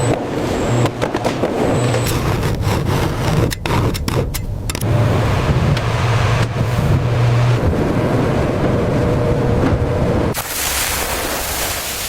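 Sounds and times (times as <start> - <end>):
machinery whirring: 0.0 - 10.3
machinery low hum: 0.0 - 10.4.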